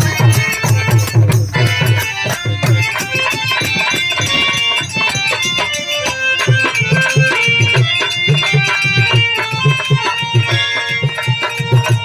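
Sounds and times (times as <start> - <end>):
dense clicking percussion: 0.0 - 12.0
hand drums fast rhythm: 0.0 - 12.0
held melodic line: 0.0 - 12.0.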